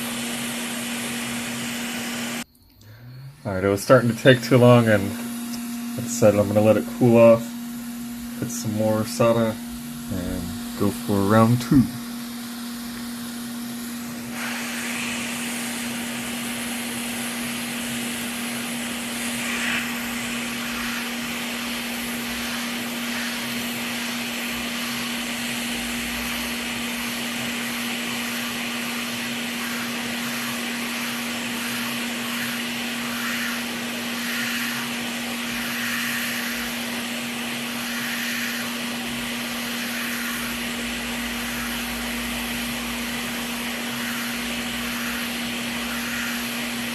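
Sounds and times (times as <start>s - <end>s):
hot air station hissing: 0.0s - 46.9s
steady low hum: 0.0s - 46.9s.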